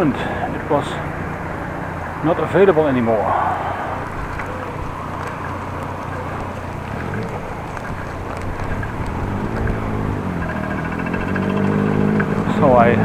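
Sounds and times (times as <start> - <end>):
road and traffic noise: 0.0 - 13.0
wind on microphone: 0.0 - 13.0.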